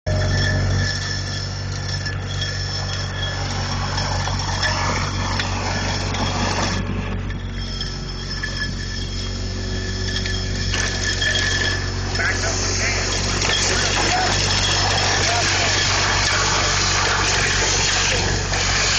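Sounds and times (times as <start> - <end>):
soil and gravel rushing up tube: 0.1 - 18.9
vacuum excavator drone and whine: 0.1 - 18.9.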